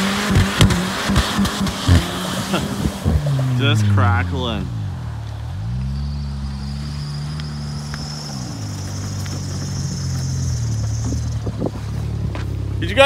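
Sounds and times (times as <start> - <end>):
car engine revving: 0.0 - 13.0
high turbo whine: 0.0 - 13.0.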